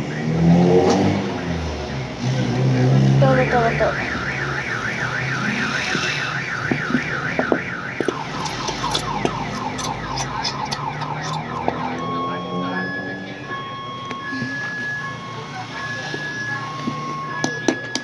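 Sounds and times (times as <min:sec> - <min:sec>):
electronic alarm warbling and chirping: 0:03.0 - 0:18.0.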